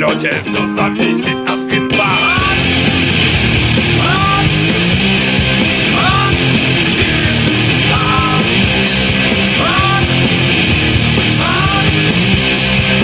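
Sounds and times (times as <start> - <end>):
instrumental rock music: 0.0 - 13.0
rising sliding guitar figure: 1.0 - 13.0.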